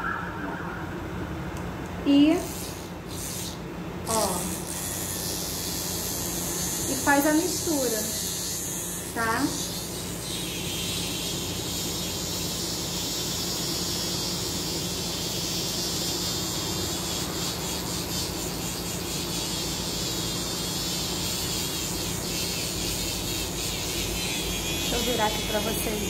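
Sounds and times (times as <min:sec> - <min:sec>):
handheld mini mixer buzzing: 0:02.3 - 0:26.0.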